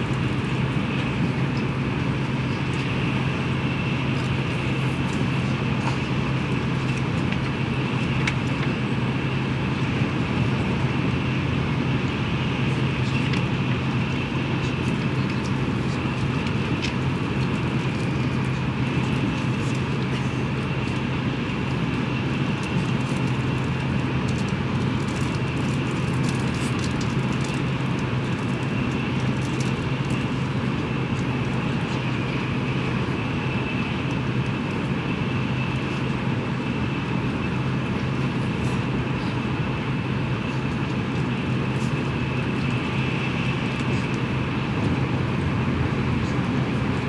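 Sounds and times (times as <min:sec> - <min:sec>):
train cabin low hum: 0:00.0 - 0:47.0.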